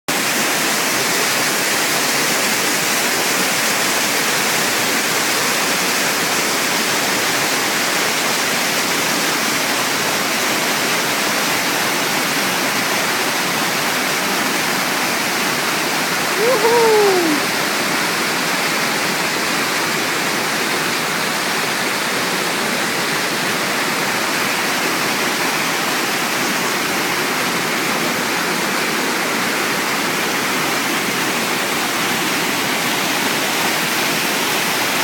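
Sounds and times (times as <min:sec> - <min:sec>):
waterfall roaring: 0:00.1 - 0:35.0.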